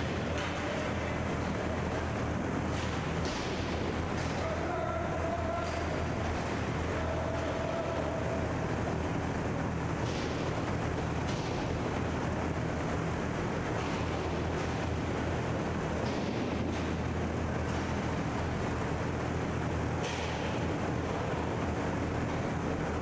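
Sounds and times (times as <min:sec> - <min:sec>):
low hum and rushing noise: 0:00.0 - 0:23.0.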